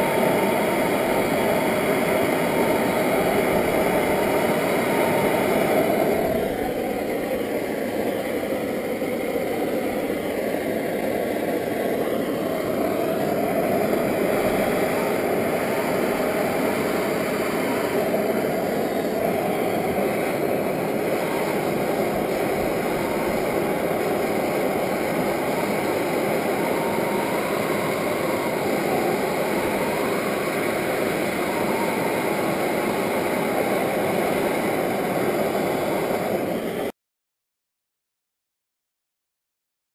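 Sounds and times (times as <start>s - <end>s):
gas torch hissing: 0.0s - 36.9s.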